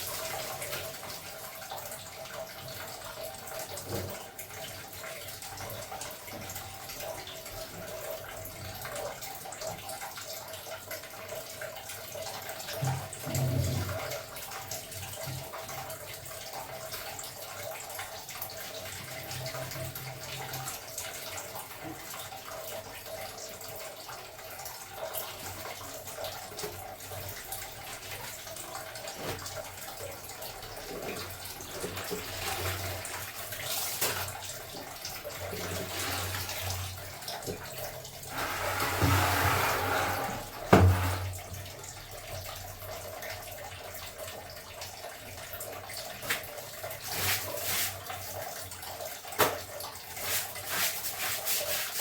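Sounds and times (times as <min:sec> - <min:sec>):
water running: 0:00.0 - 0:52.0.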